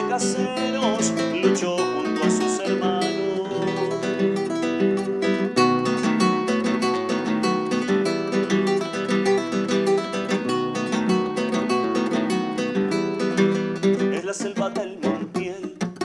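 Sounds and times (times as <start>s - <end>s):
acoustic guitar strummed and picked: 0.0s - 16.0s.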